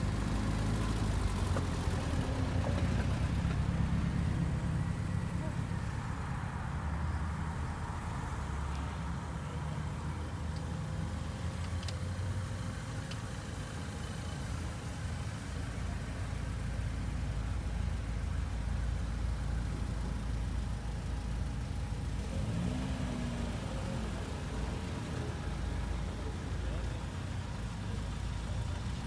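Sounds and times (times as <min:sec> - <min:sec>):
car engines driving past: 0:00.0 - 0:29.0.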